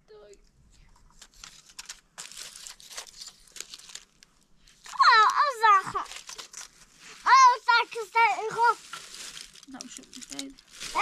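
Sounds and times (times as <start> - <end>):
crinkling handling noise: 0.3 - 11.0.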